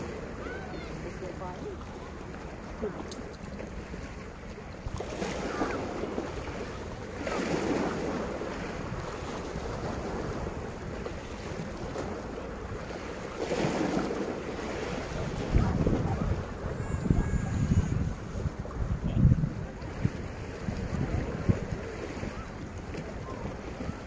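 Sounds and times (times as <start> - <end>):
sea waves against rocks: 0.0 - 24.0
wind rumbling on microphone: 4.6 - 24.0.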